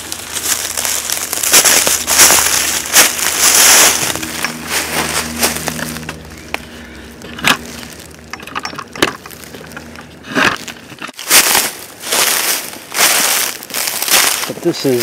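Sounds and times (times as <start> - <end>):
footsteps crunching dry leaves: 0.0 - 15.0
twigs cracking underfoot: 0.0 - 15.0.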